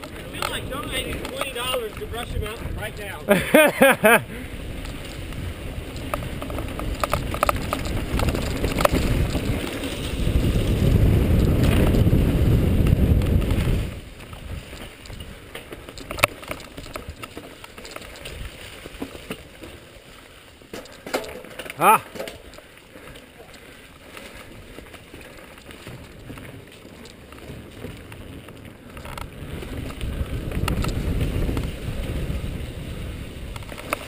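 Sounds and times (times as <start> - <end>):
wind buffeting microphone: 0.0 - 19.0, 24.4 - 34.0
bike rattling over roots: 0.0 - 34.0
bike tyre rumble: 0.0 - 34.0.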